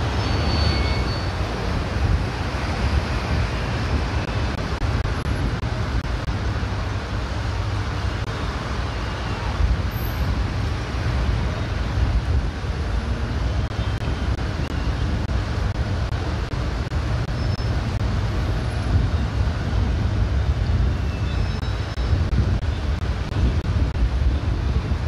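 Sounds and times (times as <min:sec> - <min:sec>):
distant road traffic rumble: 0:00.0 - 0:25.0.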